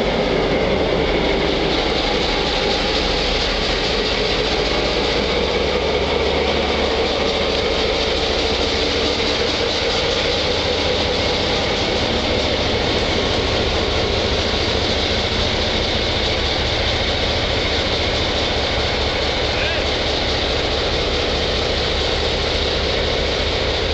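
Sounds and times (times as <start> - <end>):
diesel locomotive engine running: 0.0 - 23.9.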